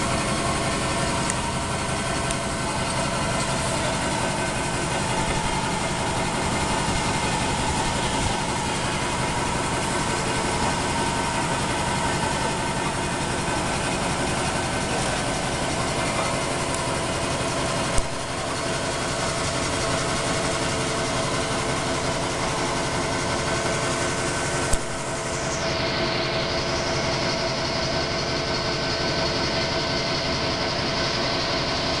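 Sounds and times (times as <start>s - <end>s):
milling machine running: 0.0s - 32.0s.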